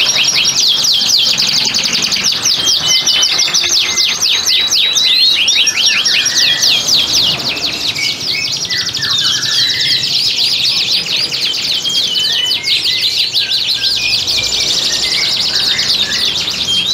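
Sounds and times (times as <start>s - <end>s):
canary trilling song: 0.0s - 16.9s
lower bird chirps: 0.0s - 16.9s.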